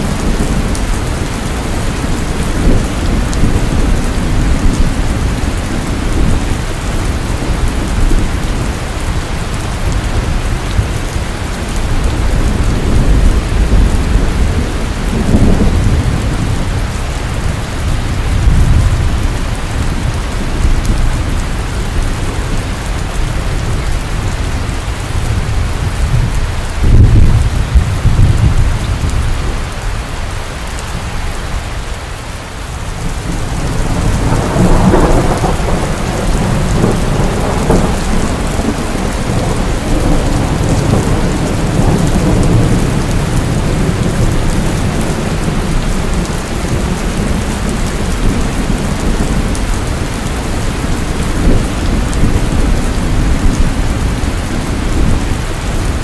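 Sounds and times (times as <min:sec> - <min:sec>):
loud rain: 0:00.0 - 0:56.0.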